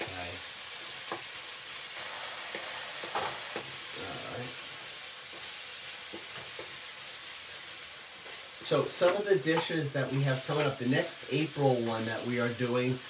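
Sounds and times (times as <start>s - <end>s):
onions and peppers sizzling in oil: 0.0s - 13.0s.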